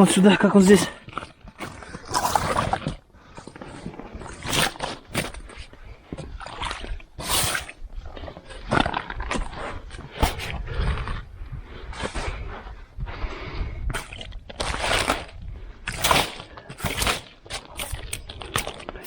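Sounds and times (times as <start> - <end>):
scraping and crunching snow and ice: 0.0 - 19.0.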